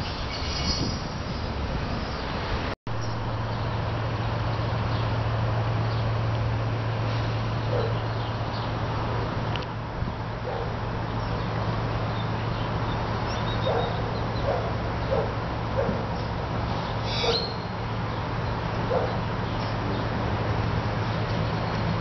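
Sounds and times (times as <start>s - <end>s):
distant diesel locomotive: 0.0s - 22.0s
road traffic rumble: 0.0s - 22.0s.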